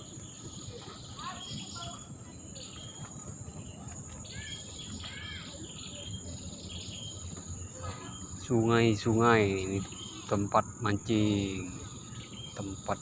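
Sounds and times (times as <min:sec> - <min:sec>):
arched bird calls: 0:00.0 - 0:13.0
birds chirping: 0:00.0 - 0:13.0
insects calling: 0:00.0 - 0:13.0.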